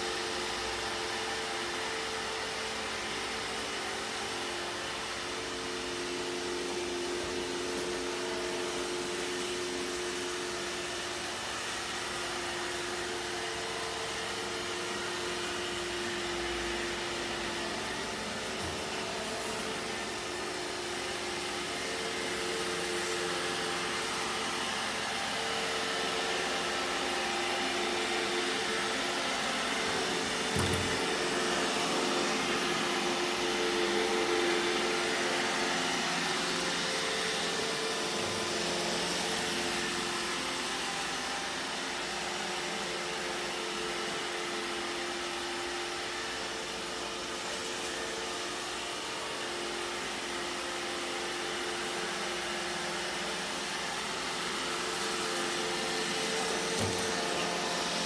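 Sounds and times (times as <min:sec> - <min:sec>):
robot vacuum motors humming: 0:00.4 - 0:58.0.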